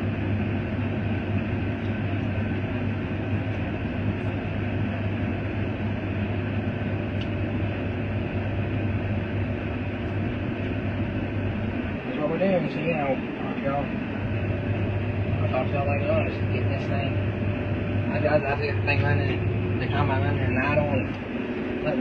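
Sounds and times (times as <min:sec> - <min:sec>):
combine engine humming: 0:00.0 - 0:22.0.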